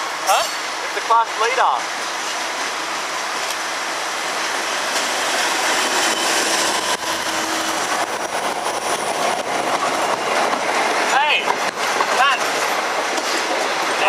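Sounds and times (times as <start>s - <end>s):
diesel locomotive passing: 0.0s - 14.0s.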